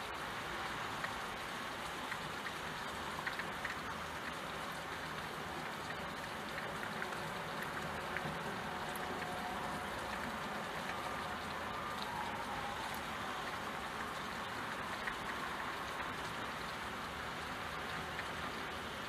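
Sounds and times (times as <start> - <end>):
steady rain: 0.0 - 19.0
drops ticking on window glass: 0.6 - 12.3, 12.9 - 16.8, 17.4 - 19.0.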